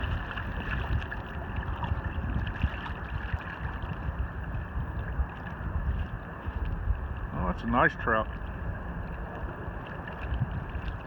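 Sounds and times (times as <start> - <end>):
gurgling water: 0.0 - 11.0
wind buffeting microphone: 0.0 - 11.0.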